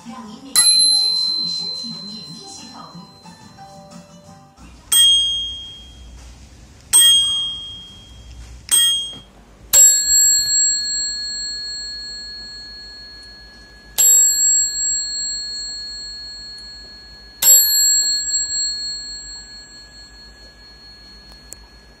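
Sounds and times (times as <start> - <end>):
high bicycle bell ding: 0.6 - 3.6, 4.9 - 6.2, 6.9 - 22.0
lower ringing bicycle bell: 0.6 - 3.7, 4.9 - 22.0.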